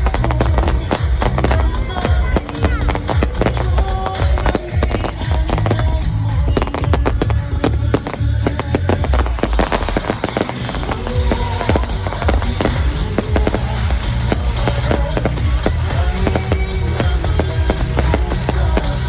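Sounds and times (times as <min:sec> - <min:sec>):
deep rumble: 0:00.0 - 0:19.0
fireworks bangs and crackles: 0:00.0 - 0:19.0
music playing: 0:00.0 - 0:19.0.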